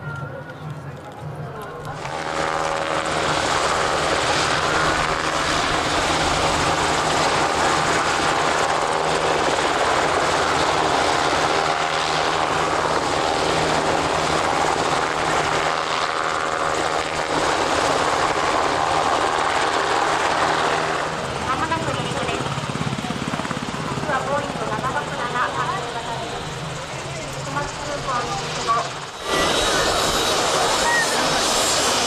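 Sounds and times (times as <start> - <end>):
helicopter rotor and engine noise: 0.0 - 32.0.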